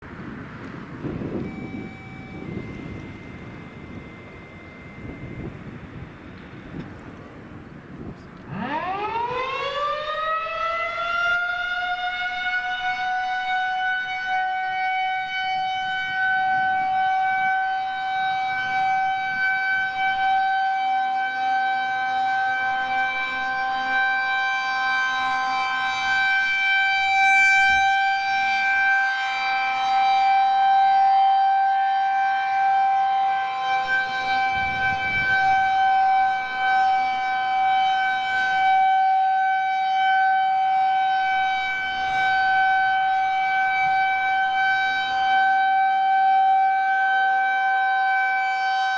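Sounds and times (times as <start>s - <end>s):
rotating warning siren tone: 0.1s - 48.9s.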